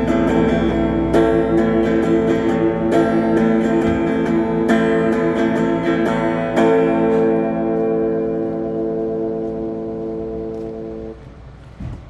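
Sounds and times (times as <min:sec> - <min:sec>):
acoustic guitar strumming chords: 0:00.0 - 0:11.7.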